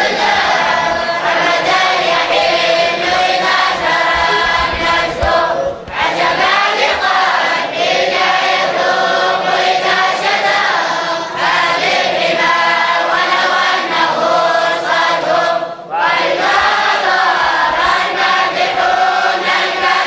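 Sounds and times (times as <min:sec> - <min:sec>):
voices chanting in unison: 0:00.0 - 0:20.0.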